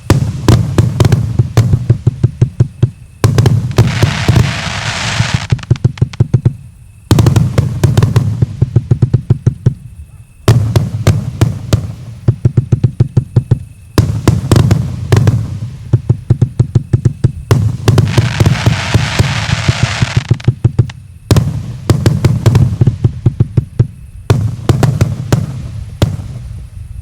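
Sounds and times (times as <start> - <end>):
firework crackling hiss: 0.0 - 27.0.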